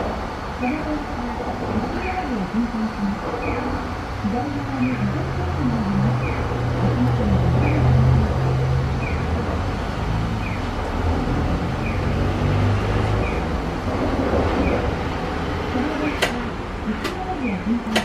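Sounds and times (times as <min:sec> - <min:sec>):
streetcar interior hum: 0:00.0 - 0:18.0.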